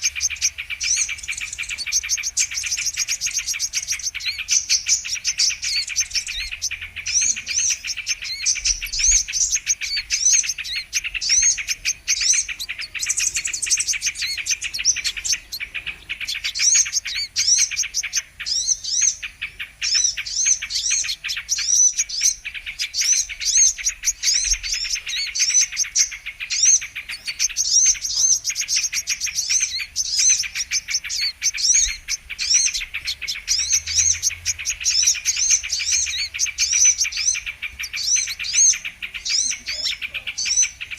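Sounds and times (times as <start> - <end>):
high thin bird chirps and trills: 0.0 - 40.9.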